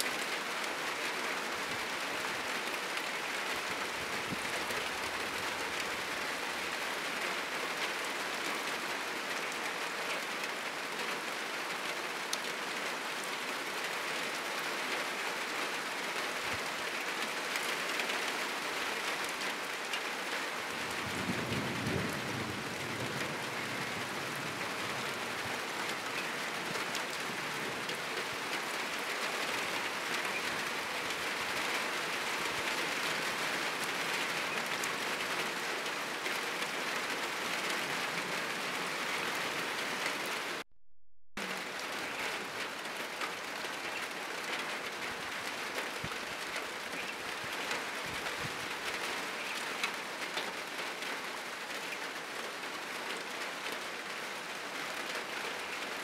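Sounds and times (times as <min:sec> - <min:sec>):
heavy rain on roof and trees: 0:00.0 - 0:40.7, 0:41.4 - 0:56.0.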